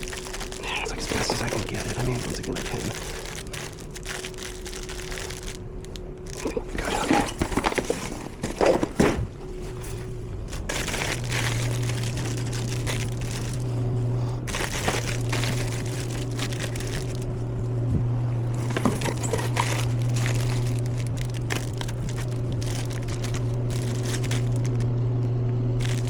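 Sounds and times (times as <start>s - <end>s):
plastic snack wrappers rustling: 0.0s - 17.4s, 18.5s - 25.0s, 25.8s - 26.0s
steady low hum: 0.0s - 26.0s.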